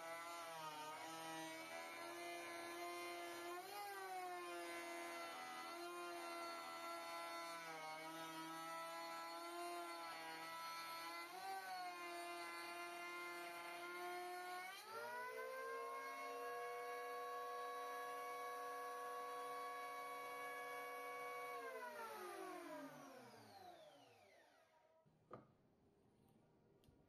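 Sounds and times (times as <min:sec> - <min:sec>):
planer cutting a board: 0:00.0 - 0:24.6
electric planer whining: 0:00.0 - 0:24.7.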